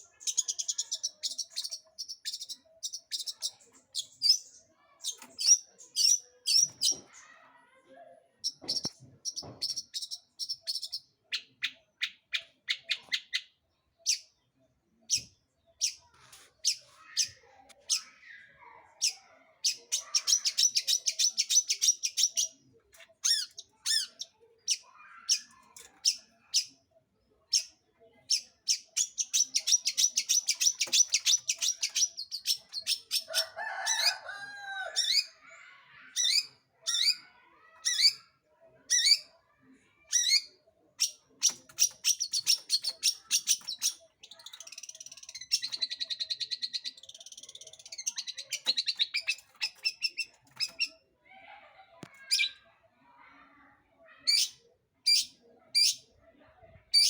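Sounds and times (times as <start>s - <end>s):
bird chirping and trilling: 0.0s - 7.1s, 8.4s - 14.3s, 15.0s - 26.8s, 27.5s - 38.3s, 38.9s - 39.4s, 40.1s - 51.0s, 52.2s - 52.6s, 54.2s - 56.1s.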